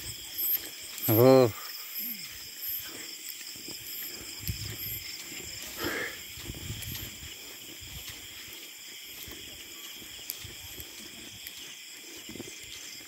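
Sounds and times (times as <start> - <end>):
chorus of night insects: 0.0 - 13.0.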